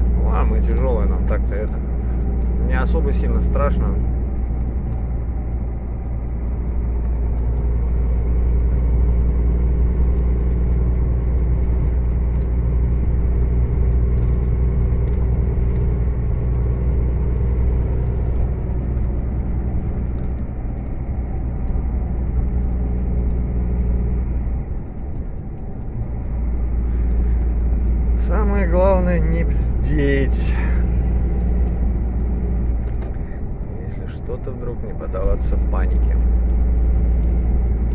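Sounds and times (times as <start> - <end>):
road noise: 0.0 - 37.9
truck engine droning: 0.0 - 37.9.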